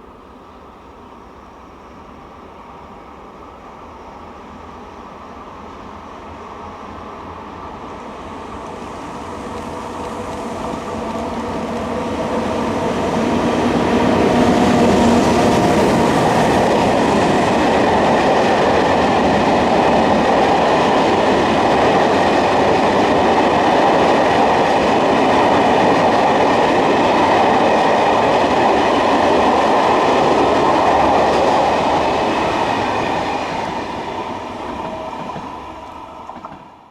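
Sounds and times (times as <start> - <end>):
train passing: 0.0 - 36.9.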